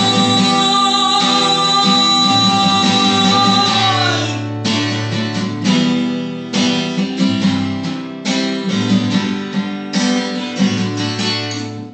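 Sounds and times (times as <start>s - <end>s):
acoustic guitar strumming chords: 0.0s - 11.9s.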